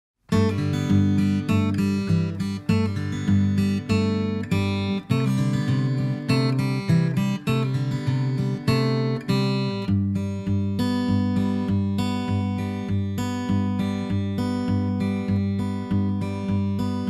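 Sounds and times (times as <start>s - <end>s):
strummed acoustic guitar: 0.2s - 17.0s.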